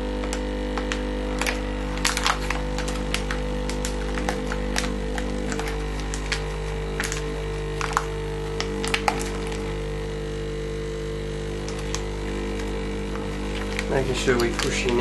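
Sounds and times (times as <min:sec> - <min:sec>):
light crackles and clicks: 0:00.0 - 0:09.8, 0:11.6 - 0:15.0
vacuum sealer pump humming: 0:00.0 - 0:15.0.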